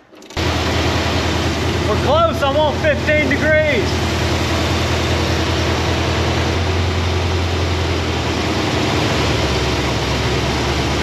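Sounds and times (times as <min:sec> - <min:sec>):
car engine idling: 0:00.3 - 0:11.0.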